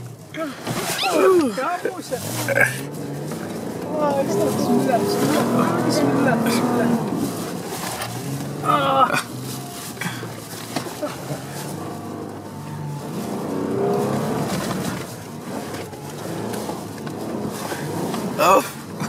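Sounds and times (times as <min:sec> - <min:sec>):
car engine under load: 0:00.0 - 0:19.0.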